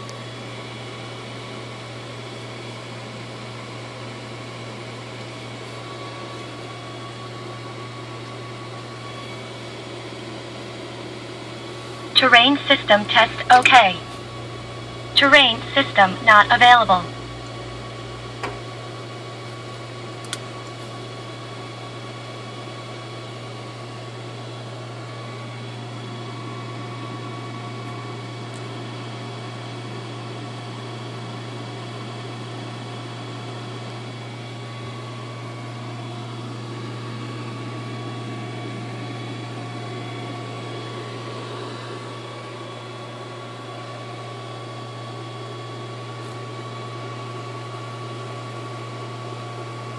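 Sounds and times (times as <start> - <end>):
electrical hum with fan whir: 0.0 - 49.9.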